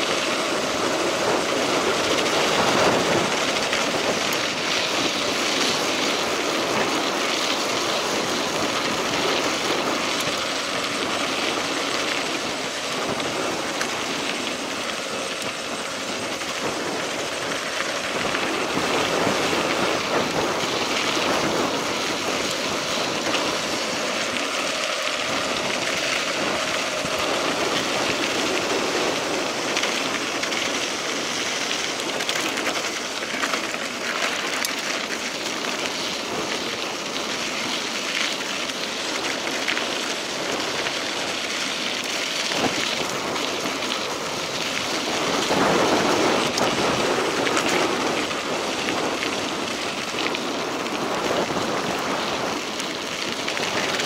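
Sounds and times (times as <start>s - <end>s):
bike tyres rolling on gravel: 0.0s - 54.0s.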